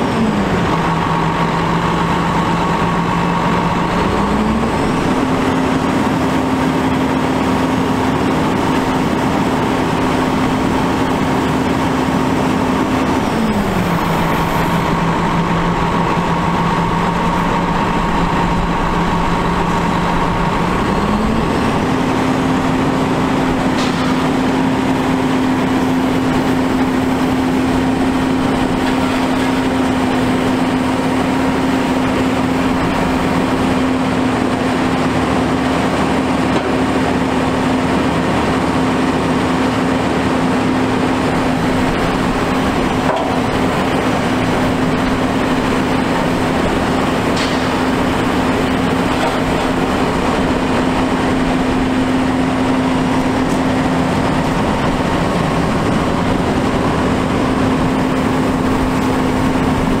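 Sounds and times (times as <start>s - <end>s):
diesel engine droning: 0.0s - 60.0s.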